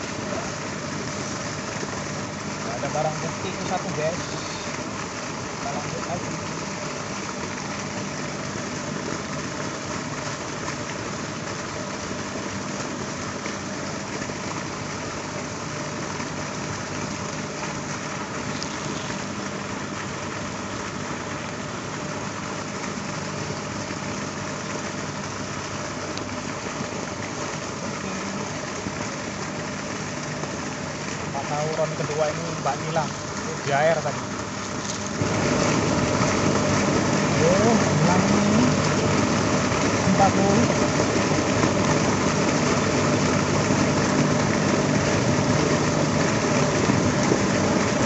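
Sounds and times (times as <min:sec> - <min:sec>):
motor running steadily: 0:00.0 - 0:48.0.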